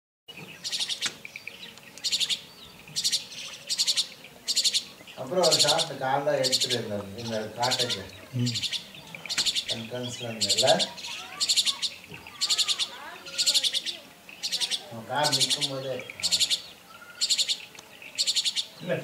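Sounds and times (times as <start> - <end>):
myna harsh rasping calls: 2.1 - 18.8.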